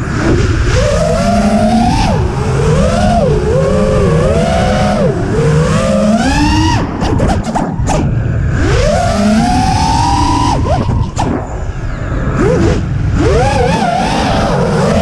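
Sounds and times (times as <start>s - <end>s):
drone motors whining: 0.0s - 15.0s
wind and propeller wash: 0.0s - 15.0s.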